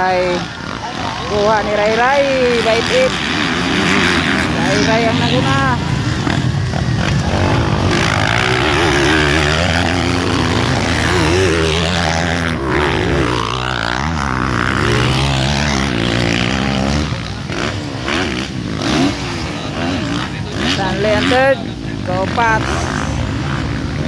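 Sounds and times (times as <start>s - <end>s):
motocross bikes revving: 0.0s - 24.0s.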